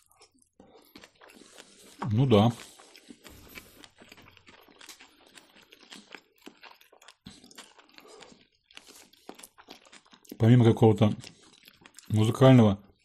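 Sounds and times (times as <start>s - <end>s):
faint wet chewing: 0.0s - 13.0s.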